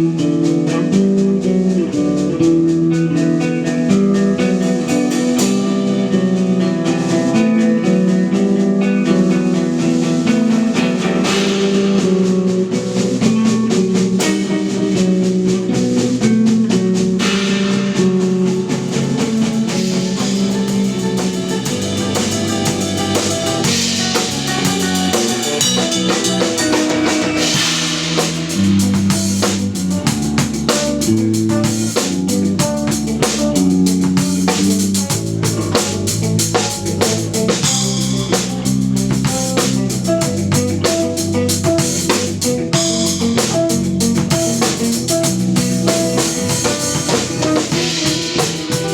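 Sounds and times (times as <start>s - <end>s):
drum kit: 0.0s - 48.9s
electric bass: 0.0s - 48.9s
electric guitar: 0.0s - 48.9s.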